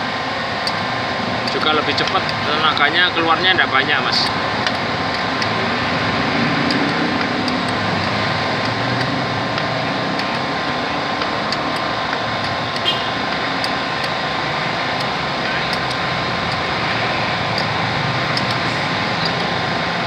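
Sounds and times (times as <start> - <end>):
machinery running: 0.0 - 20.0
faint clicks: 0.4 - 20.0.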